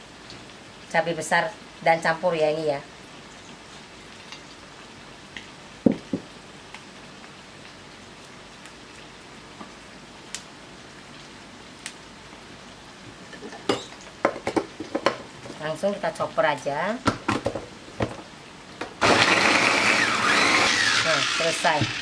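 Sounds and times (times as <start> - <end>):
chicken frying in hot oil: 0.0 - 19.1, 20.9 - 22.0.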